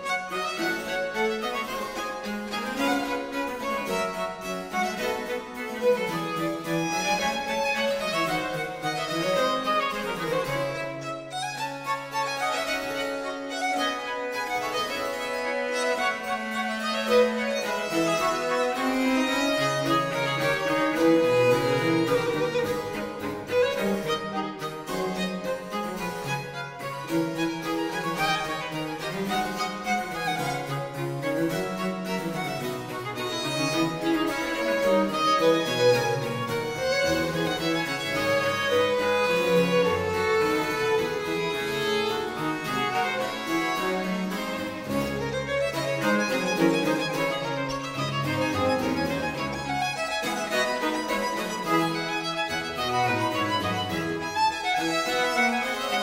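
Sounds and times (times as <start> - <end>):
cello line: 0.0 - 56.0
violin melody: 0.0 - 56.0.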